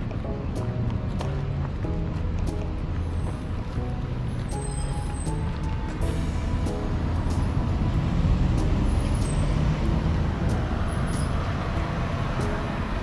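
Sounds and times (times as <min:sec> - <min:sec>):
faint background music: 0:00.0 - 0:13.0
street traffic rumble: 0:00.0 - 0:13.0.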